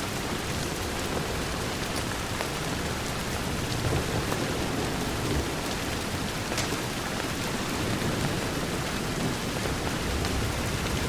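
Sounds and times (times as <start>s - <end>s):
rain falling against a window: 0.0s - 11.0s.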